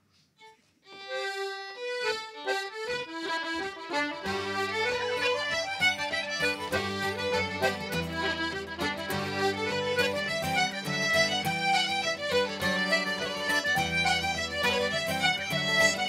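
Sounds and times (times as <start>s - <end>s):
concertina: 0.0s - 16.0s
fiddles playing a fast reel: 0.9s - 16.0s
acoustic guitar chords: 1.8s - 16.0s.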